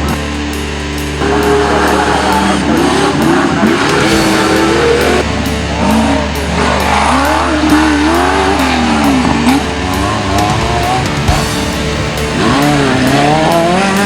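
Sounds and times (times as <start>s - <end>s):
background music with steady beat: 0.0s - 14.0s
off-road engine revving: 0.0s - 14.0s.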